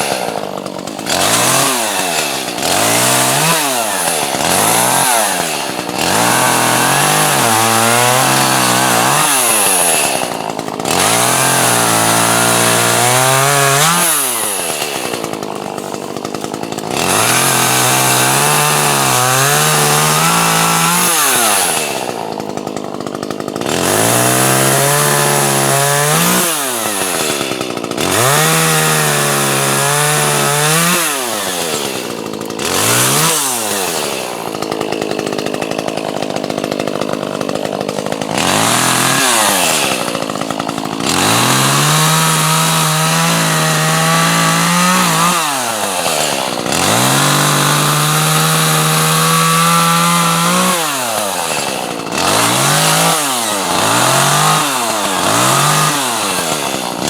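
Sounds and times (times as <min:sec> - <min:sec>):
chainsaw cutting logs: 0:00.0 - 0:57.0.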